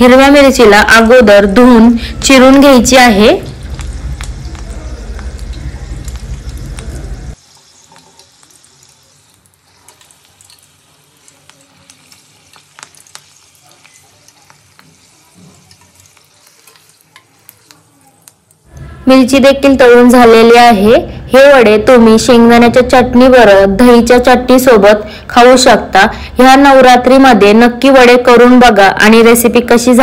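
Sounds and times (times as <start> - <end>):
chillies deep-frying in oil: 0.0 - 30.0.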